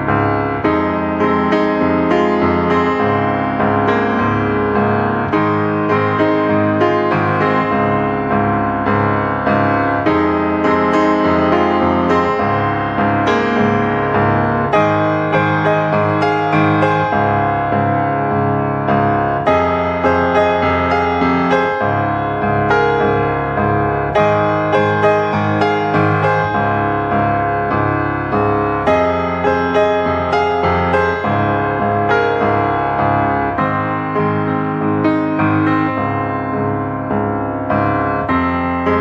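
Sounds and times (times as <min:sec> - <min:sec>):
gentle piano melody: 0:00.0 - 0:39.0.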